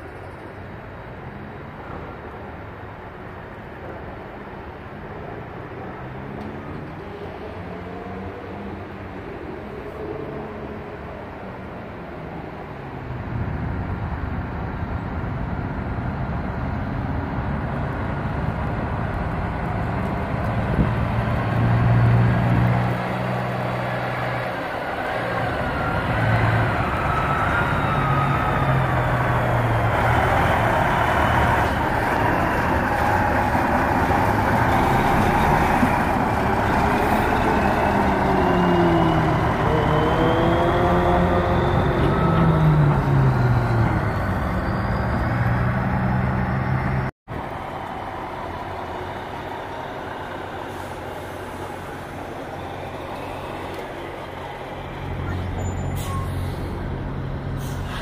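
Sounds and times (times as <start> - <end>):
truck diesel engine passing: 4.7 - 58.0.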